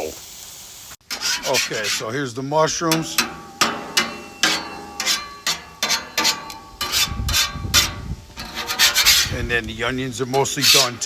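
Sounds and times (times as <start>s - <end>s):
metal spatulas scraping griddle: 1.0s - 11.0s.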